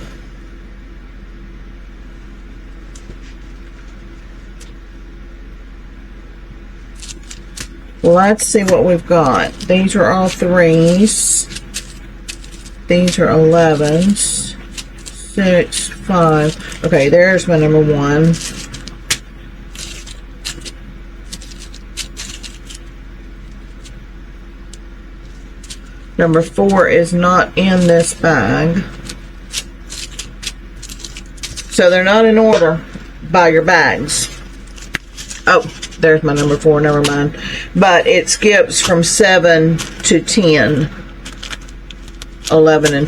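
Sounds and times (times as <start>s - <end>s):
low electrical room hum: 0.0s - 43.0s
plastic bags crinkling: 6.8s - 43.0s.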